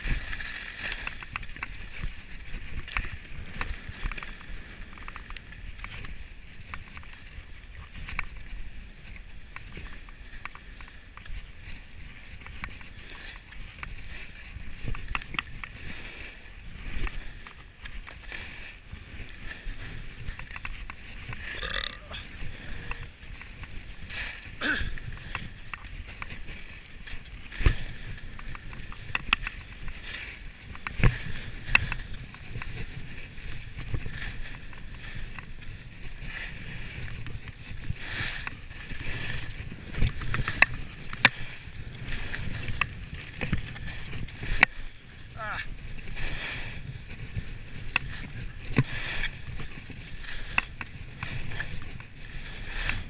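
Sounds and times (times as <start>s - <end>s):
skis clacking: 0.0s - 53.0s
skis scraping over snow: 0.0s - 53.0s.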